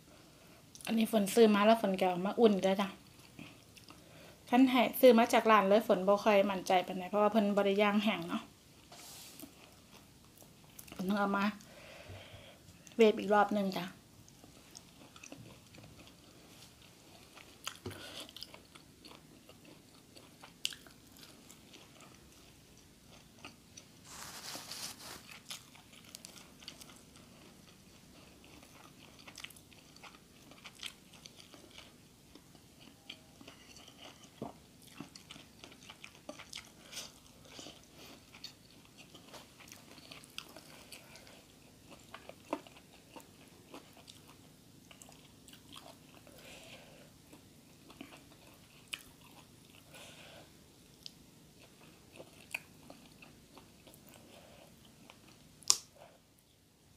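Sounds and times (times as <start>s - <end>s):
chewing and crunching food: 2.0s - 4.1s, 9.4s - 11.7s, 14.2s - 56.2s.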